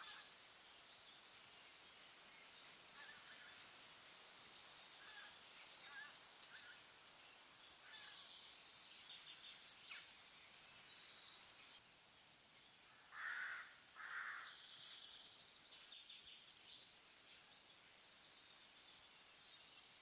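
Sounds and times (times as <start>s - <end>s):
small birds chirping: 0.0s - 11.8s, 12.5s - 20.0s.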